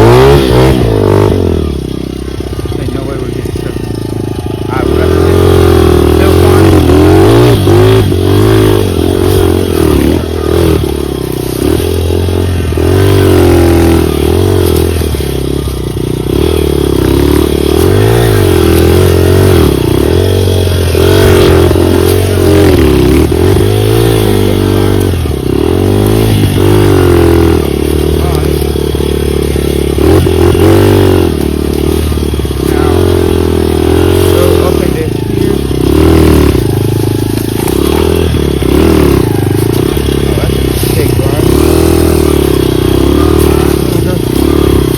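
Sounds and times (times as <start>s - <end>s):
bike clattering over rough ground: 0.0s - 44.9s
dirt bike engine revving: 0.0s - 44.9s.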